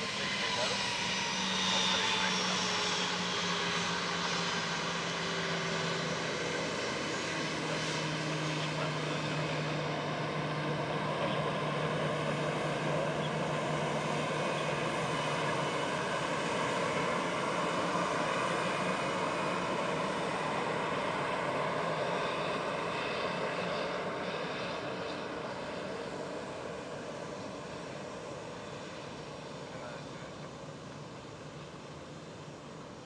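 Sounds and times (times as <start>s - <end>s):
jet engines running at low power: 0.0s - 33.0s.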